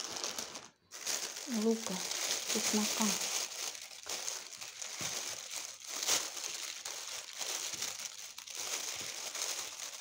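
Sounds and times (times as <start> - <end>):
plastic roasting sleeve crinkling: 0.0 - 10.0.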